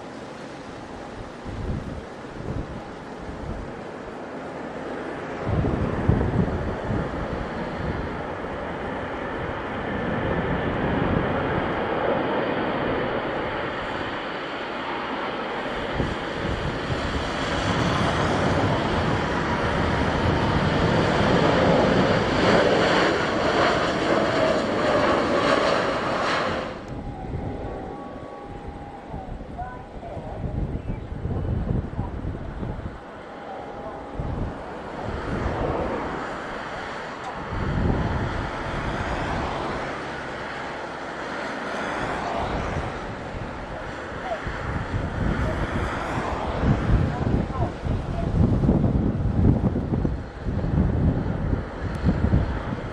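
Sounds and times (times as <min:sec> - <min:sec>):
jet engines on landing: 0:00.0 - 0:52.9
wind buffeting microphone: 0:00.0 - 0:52.9.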